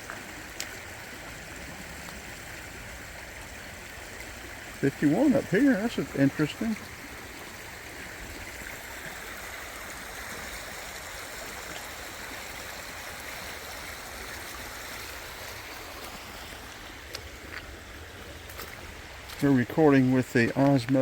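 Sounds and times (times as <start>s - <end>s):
water running over rocks: 0.0s - 21.0s.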